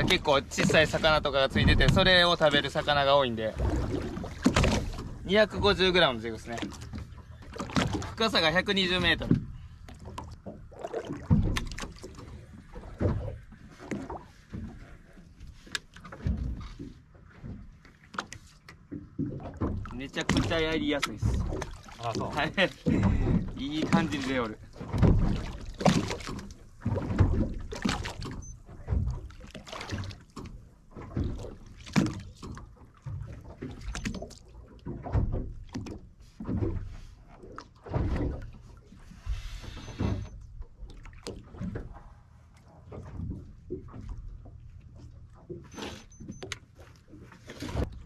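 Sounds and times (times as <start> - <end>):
water lapping against boat hull: 0.0 - 48.0.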